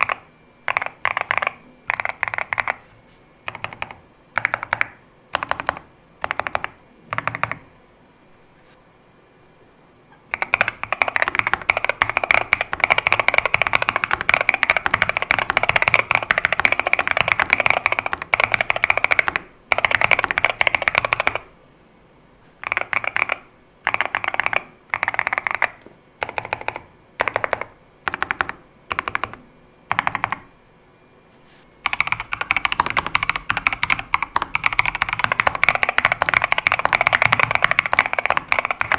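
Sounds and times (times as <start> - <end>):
mechanical keyboard typing: 0.0 - 7.6, 10.3 - 21.5, 22.6 - 30.5, 31.8 - 38.9.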